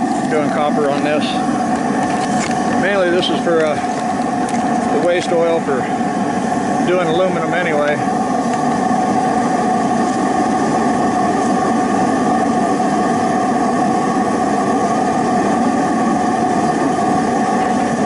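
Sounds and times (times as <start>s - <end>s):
constant whine: 0.0s - 18.0s
oil burner furnace roaring: 0.0s - 18.0s.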